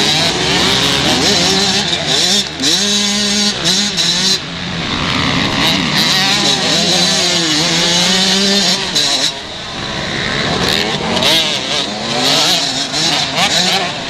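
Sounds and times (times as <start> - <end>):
motocross bike engines racing: 0.0 - 14.0.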